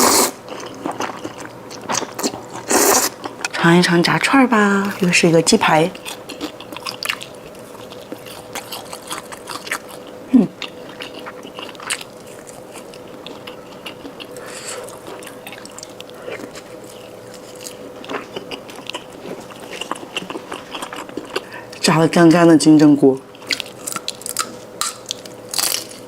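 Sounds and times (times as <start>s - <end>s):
chewing crispy fried chicken: 0.0s - 3.6s, 5.9s - 22.0s, 23.3s - 26.0s
faint steady hum: 0.0s - 26.0s.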